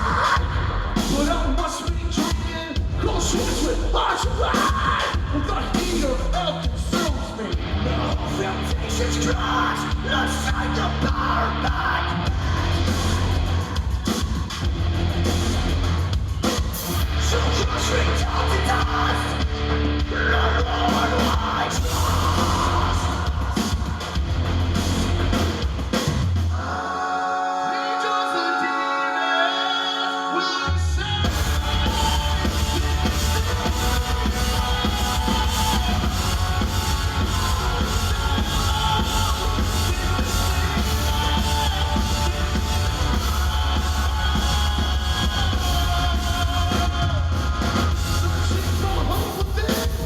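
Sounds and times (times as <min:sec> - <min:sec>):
person singing: 0:00.0 - 0:14.4, 0:17.1 - 0:24.2, 0:26.5 - 0:50.0
bass line: 0:00.0 - 0:26.7, 0:30.7 - 0:50.0
drum kit: 0:00.0 - 0:26.7, 0:31.0 - 0:50.0
distorted guitars: 0:00.0 - 0:50.0.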